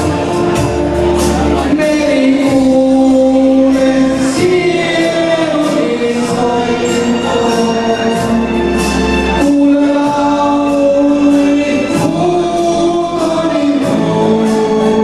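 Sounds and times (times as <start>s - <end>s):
karaoke backing track: 0.0s - 15.0s
man singing into microphone: 0.0s - 15.0s.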